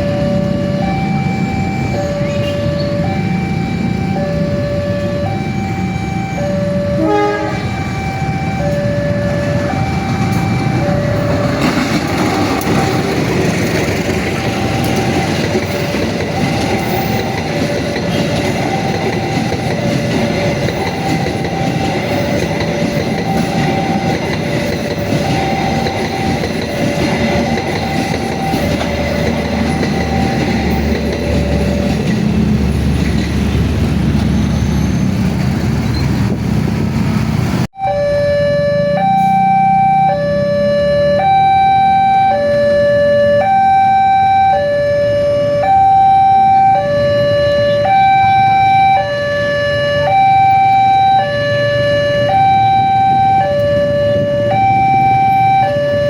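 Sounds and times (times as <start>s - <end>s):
level-crossing two-tone alarm: 0.0s - 32.4s, 37.8s - 56.0s
train rumble and wheel clatter: 0.0s - 37.8s, 46.6s - 56.0s.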